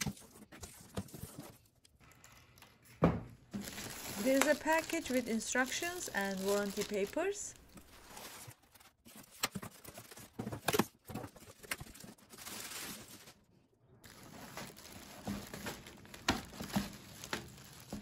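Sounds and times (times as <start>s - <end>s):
plastic packaging crinkling: 3.5s - 18.0s.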